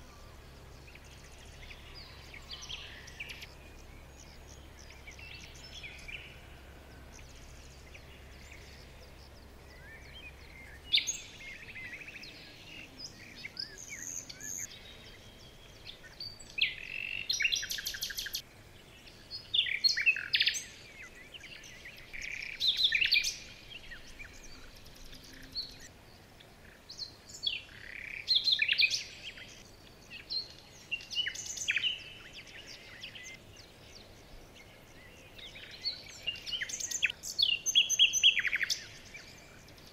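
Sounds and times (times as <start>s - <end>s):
faint steady background hiss: 0.0s - 39.9s
small birds chirping and singing: 0.0s - 39.9s.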